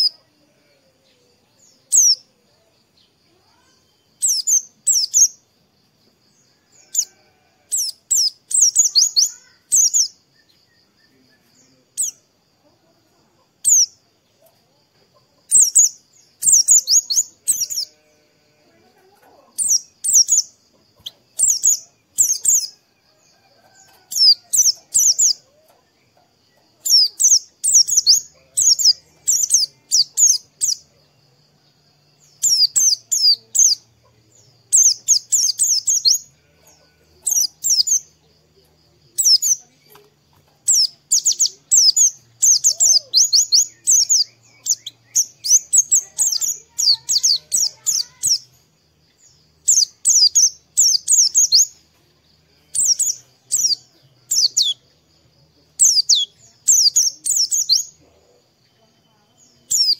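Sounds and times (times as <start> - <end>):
bird singing high chirps: 0.0 - 5.4, 6.3 - 12.3, 13.6 - 14.6, 15.2 - 18.5, 19.4 - 31.1, 32.2 - 51.8, 52.6 - 58.0, 58.6 - 59.9.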